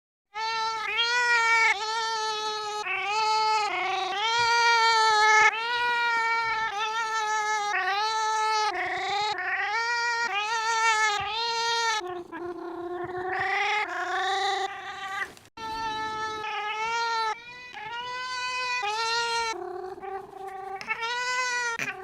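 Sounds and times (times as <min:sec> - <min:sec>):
cat meowing: 0:00.4 - 0:22.0.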